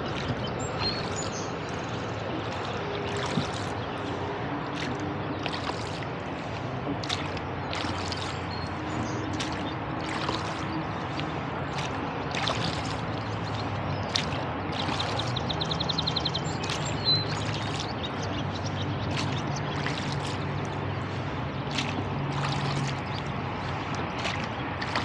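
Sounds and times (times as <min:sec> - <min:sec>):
oars splashing in water: 0:00.0 - 0:25.0
water dripping off oars: 0:00.0 - 0:25.0.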